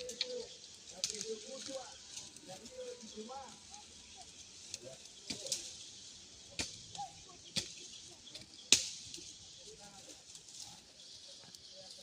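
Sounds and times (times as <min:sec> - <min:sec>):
faint bird chirps: 0:00.0 - 0:12.0
high outdoor hiss: 0:00.0 - 0:12.0.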